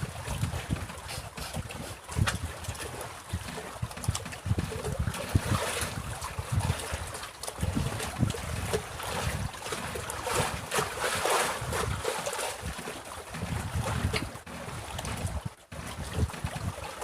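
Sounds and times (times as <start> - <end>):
choppy water waves lapping: 0.0 - 17.0
wind rumbling on microphone: 0.0 - 17.0.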